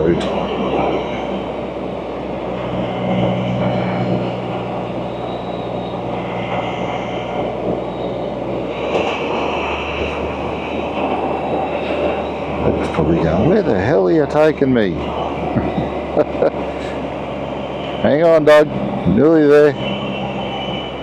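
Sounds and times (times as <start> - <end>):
road noise: 0.0 - 21.0
wind noise: 0.0 - 21.0.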